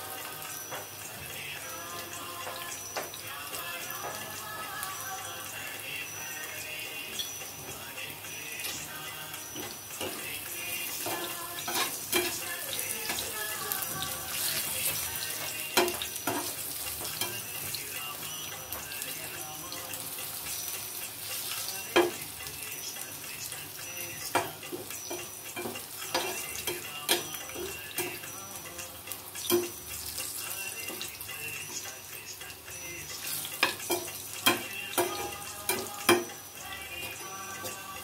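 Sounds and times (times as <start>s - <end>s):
slices sizzling in hot oil: 0.0s - 38.0s.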